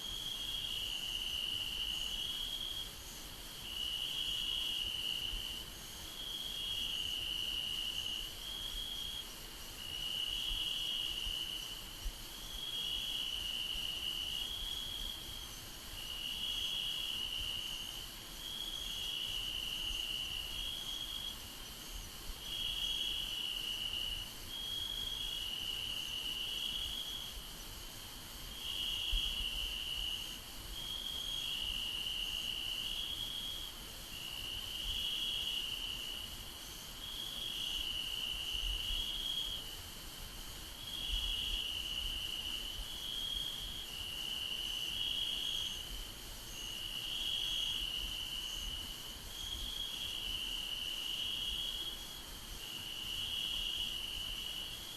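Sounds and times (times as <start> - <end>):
crickets trilling: 0.0 - 54.9
faint steady hiss: 0.0 - 54.9.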